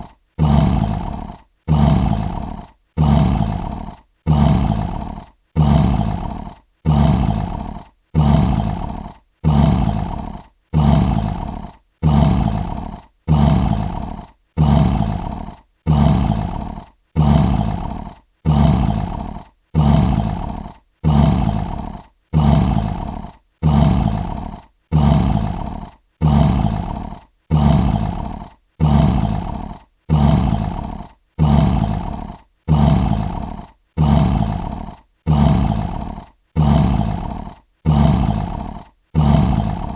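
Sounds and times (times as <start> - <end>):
lion roar: 0.0 - 39.9.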